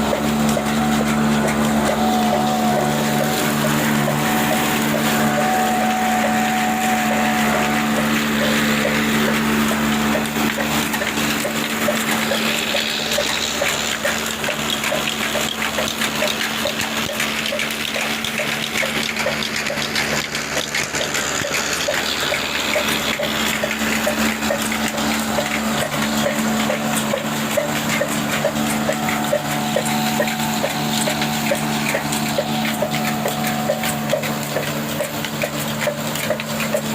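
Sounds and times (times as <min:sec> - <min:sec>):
diesel engine running: 0:00.0 - 0:36.9
flour mill grinding hiss: 0:00.0 - 0:36.9.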